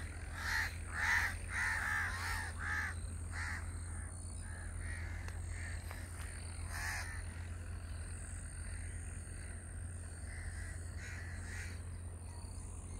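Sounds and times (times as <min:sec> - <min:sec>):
crows cawing: 0:00.0 - 0:12.1
steady low hum: 0:00.0 - 0:12.9.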